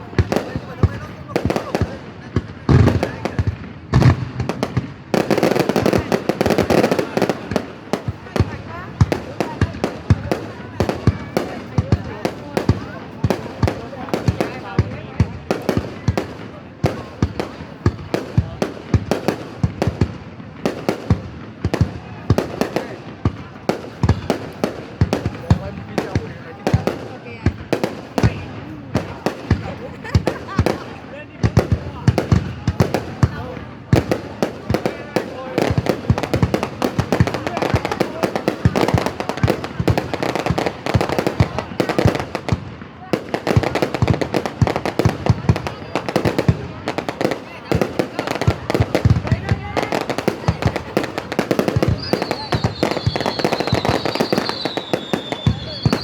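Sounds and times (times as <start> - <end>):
fireworks bangs: 0.0 - 56.0.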